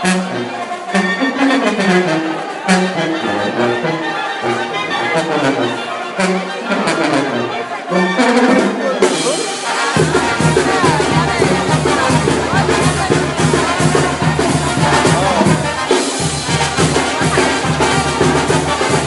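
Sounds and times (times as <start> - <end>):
crowd voices: 0.0 - 19.0
live brass band music: 0.0 - 19.0
tuba bass line: 0.0 - 19.0.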